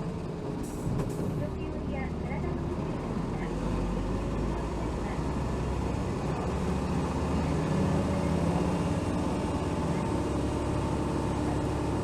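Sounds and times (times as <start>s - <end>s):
bus diesel engine drone: 0.0s - 12.0s
road noise: 0.0s - 12.0s.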